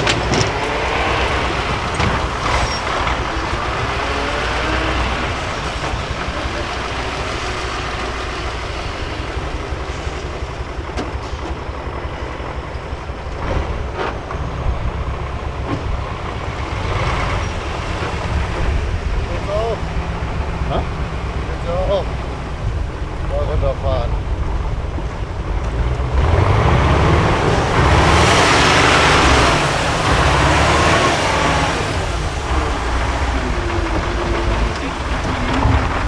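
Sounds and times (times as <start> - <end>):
heavy truck diesel engine revving: 0.0 - 36.0.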